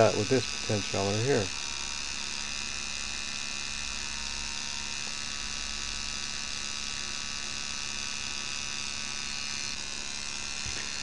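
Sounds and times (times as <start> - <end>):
electrical hum: 0.0 - 11.0
high even whine: 0.0 - 11.0.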